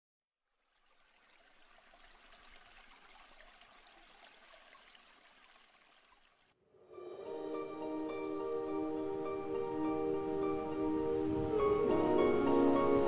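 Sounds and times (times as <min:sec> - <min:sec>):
trickling stream: 0:00.4 - 0:13.0.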